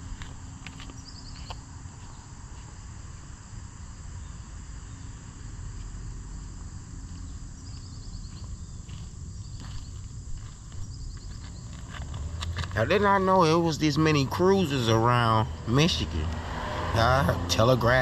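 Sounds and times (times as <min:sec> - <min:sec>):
pulsed insect chirp: 0:00.4 - 0:18.0.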